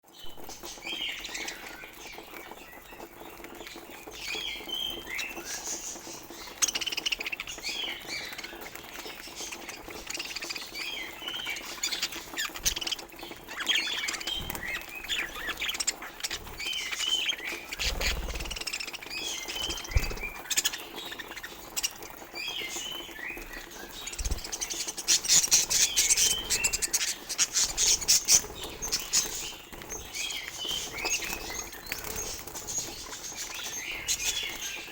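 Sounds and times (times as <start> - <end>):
budgerigars chirping and chattering: 0.1 - 34.9.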